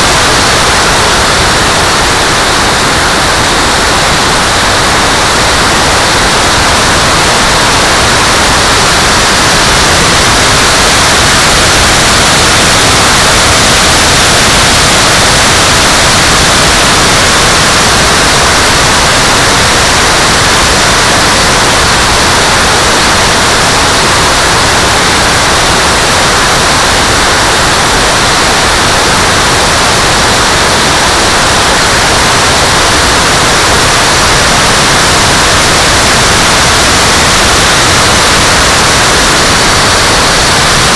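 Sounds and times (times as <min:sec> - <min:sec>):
electric ducted fan: 0:00.0 - 0:40.9.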